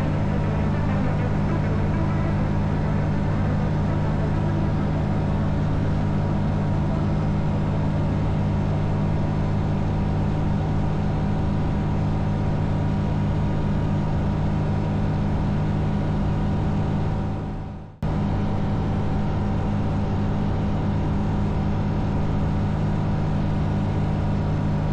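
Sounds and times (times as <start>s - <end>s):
propeller aircraft engine droning: 0.0s - 24.9s.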